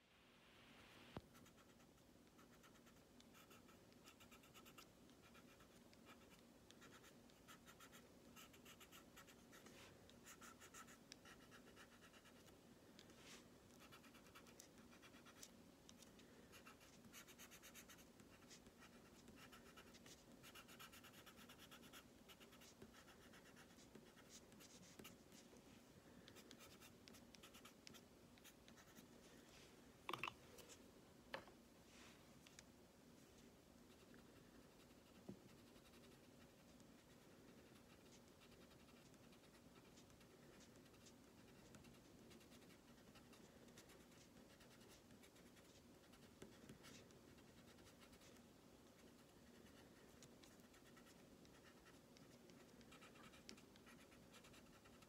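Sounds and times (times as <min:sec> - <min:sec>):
pencil scratching on card: 0:01.3 - 0:12.6, 0:13.7 - 0:25.5, 0:26.3 - 0:29.0, 0:33.9 - 0:55.0.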